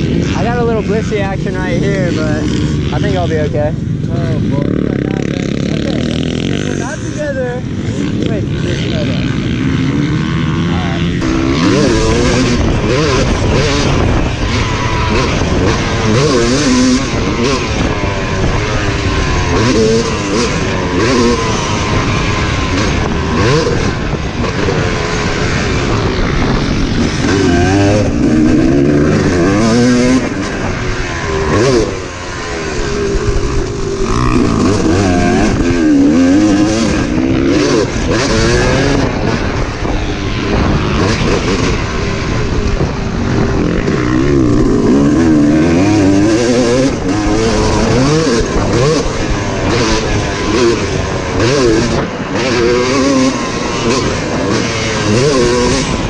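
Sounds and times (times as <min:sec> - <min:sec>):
motocross engine revving: 0:00.0 - 0:56.0
wind rushing over microphone: 0:00.0 - 0:56.0.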